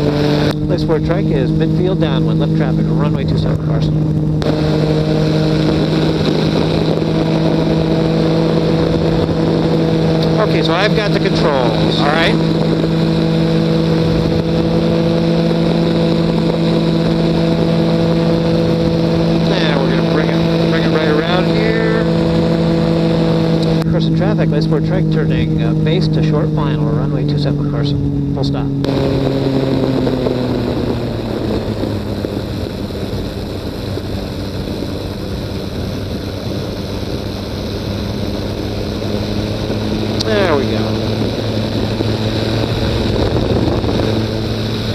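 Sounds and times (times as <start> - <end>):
propeller engine droning: 0.0 - 44.9
wind rushing over microphone: 0.0 - 44.9.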